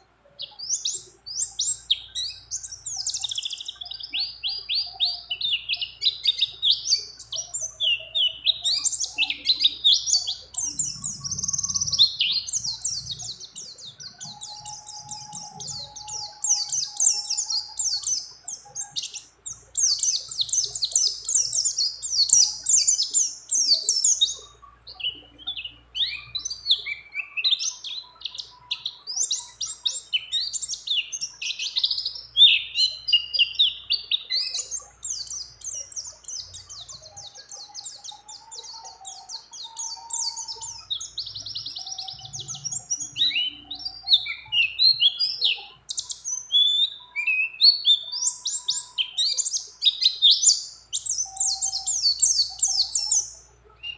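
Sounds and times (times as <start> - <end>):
small bird singing high trills: 0.0 - 53.9.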